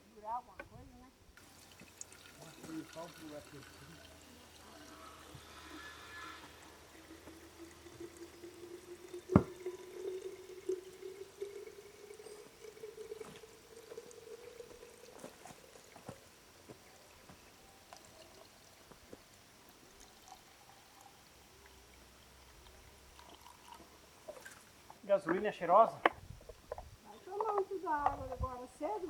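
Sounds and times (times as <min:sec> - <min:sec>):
liquid pouring into container: 0:01.4 - 0:25.0.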